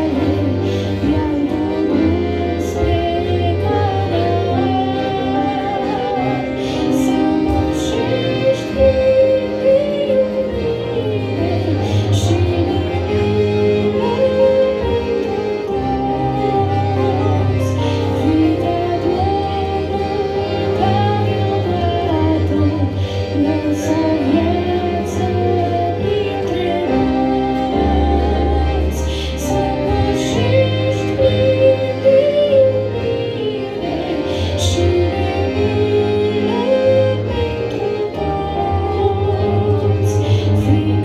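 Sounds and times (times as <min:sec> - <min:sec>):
instrumental accompaniment with bass: 0:00.0 - 0:41.0
woman singing into microphone: 0:00.0 - 0:41.0.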